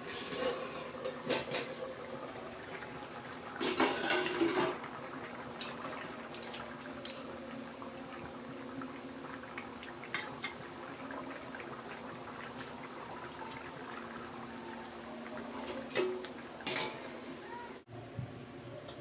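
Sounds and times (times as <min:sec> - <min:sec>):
gravy simmering and bubbling: 0:00.0 - 0:17.8.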